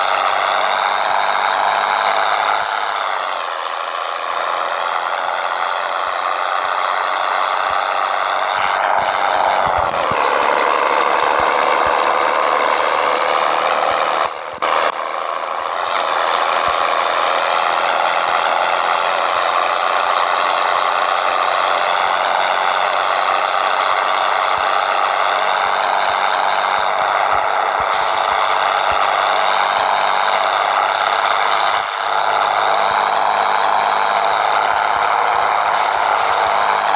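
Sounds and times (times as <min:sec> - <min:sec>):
diesel truck engine under load: 0:00.0 - 0:36.9.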